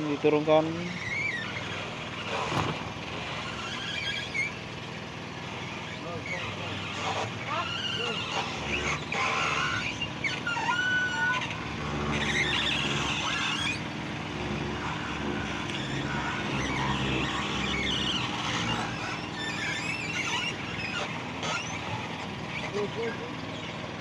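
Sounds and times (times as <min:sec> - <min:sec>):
small engine humming: 0:00.0 - 0:24.0
wooden frame squeaks and creaks: 0:00.0 - 0:24.0.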